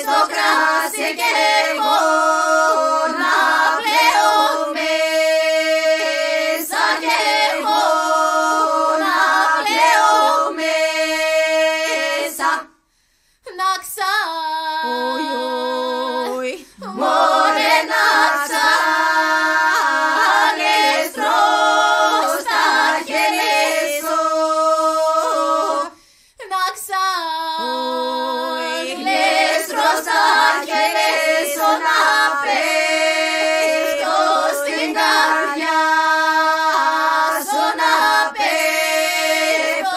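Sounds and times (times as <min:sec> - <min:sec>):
women singing a cappella: 0:00.0 - 0:39.9.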